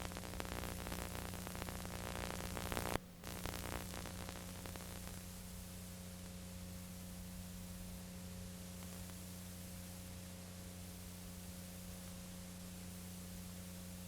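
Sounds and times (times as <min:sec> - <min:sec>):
recording hiss and hum: 0:00.0 - 0:14.0.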